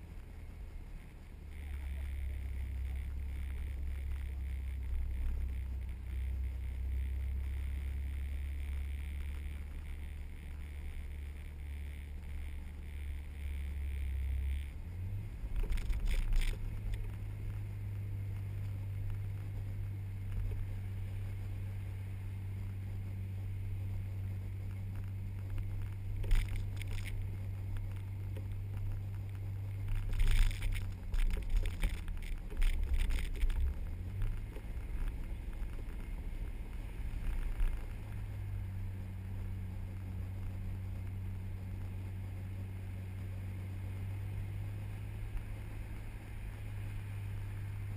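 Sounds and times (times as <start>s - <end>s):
vehicle engine humming: 0.0s - 47.9s.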